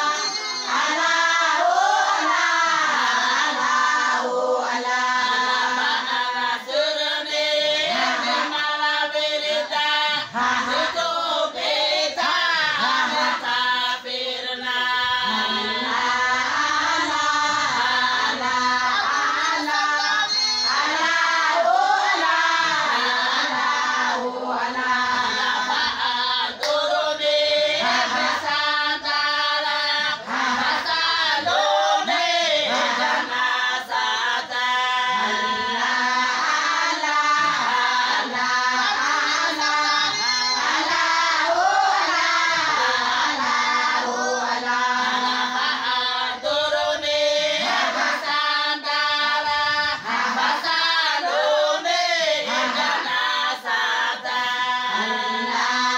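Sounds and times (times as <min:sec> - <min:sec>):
women singing together: 0:00.0 - 0:55.9.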